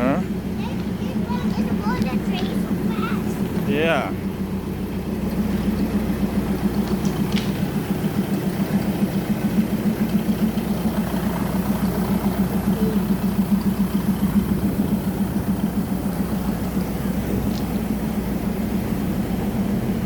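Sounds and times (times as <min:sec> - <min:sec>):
large engine idling: 0:00.0 - 0:20.0.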